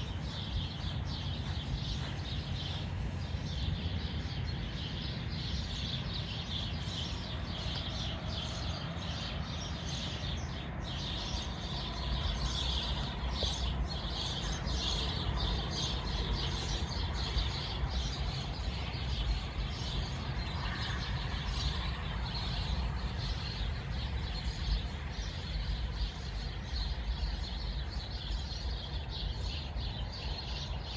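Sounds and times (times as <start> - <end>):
birds chirping: 0.0 - 30.9
constant low rumble: 0.0 - 30.9.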